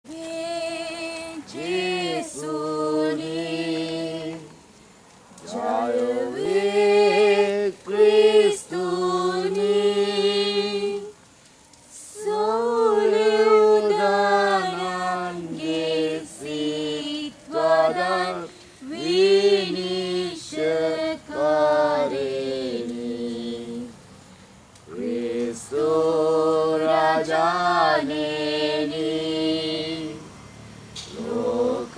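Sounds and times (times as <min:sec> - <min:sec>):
unaccompanied choir singing a hymn: 0:00.1 - 0:11.2, 0:11.8 - 0:31.9.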